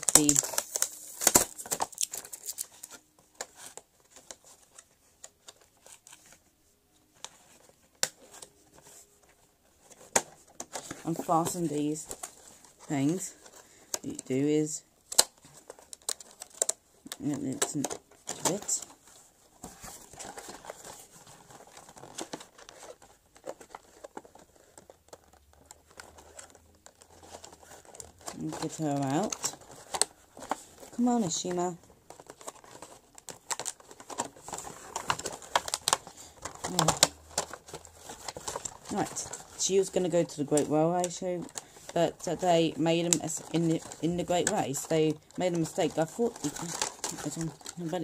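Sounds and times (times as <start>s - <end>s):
cardboard box handling noises: 0.0s - 48.0s
packaging rustling and crinkling: 0.0s - 48.0s.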